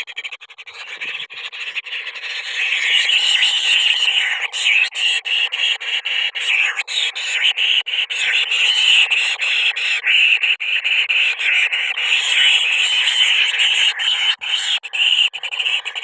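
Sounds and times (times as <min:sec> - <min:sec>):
chorus of animal calls: 0:00.0 - 0:16.0.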